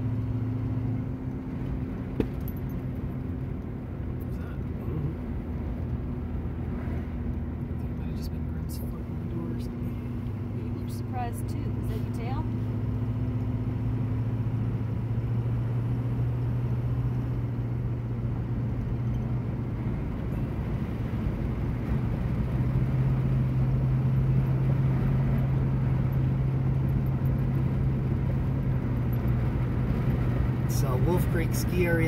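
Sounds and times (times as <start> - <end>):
car engine drone: 0.0 - 32.0
tyre and road noise: 0.0 - 32.0.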